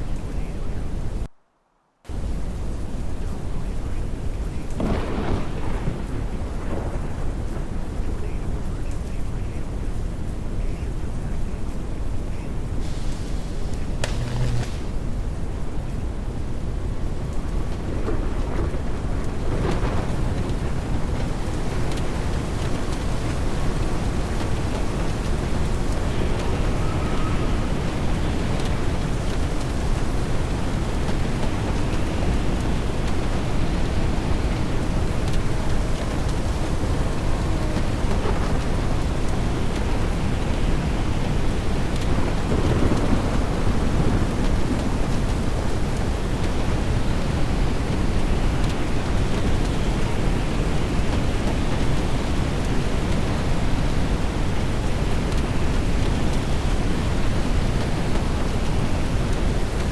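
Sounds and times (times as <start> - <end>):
rain: 0.0 - 59.9
wind: 0.0 - 59.9.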